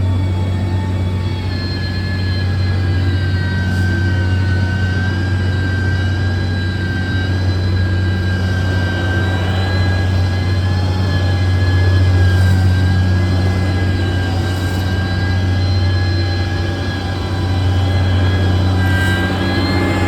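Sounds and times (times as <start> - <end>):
construction machine engine drone: 0.0 - 20.0.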